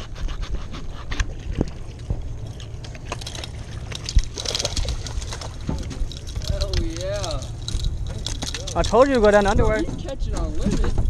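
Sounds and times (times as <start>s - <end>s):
knocks and handling noise in boat: 0.0s - 11.0s
steady low rumble: 1.3s - 11.0s.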